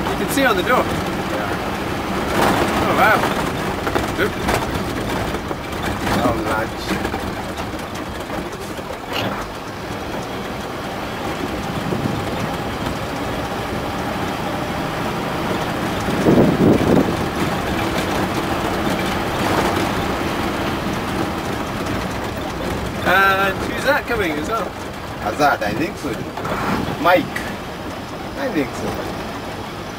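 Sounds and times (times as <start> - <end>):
road rumble: 0.0 - 29.9
truck engine drone: 0.0 - 29.9.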